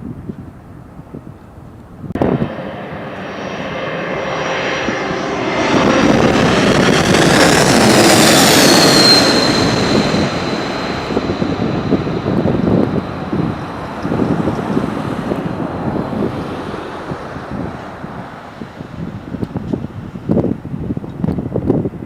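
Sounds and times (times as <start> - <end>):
wind buffeting microphone: 0.0 - 22.0
jet airliner passing: 0.7 - 22.0
high engine whine: 1.8 - 20.0.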